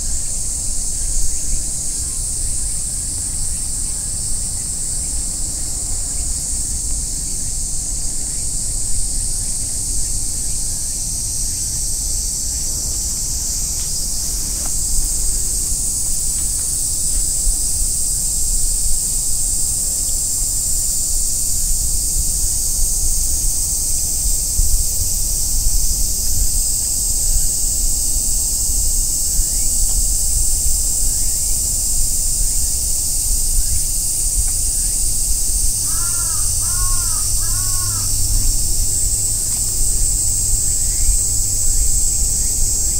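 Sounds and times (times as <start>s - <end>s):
cicada chorus drone: 0.0s - 42.9s
wind rumble on microphone: 0.0s - 42.9s.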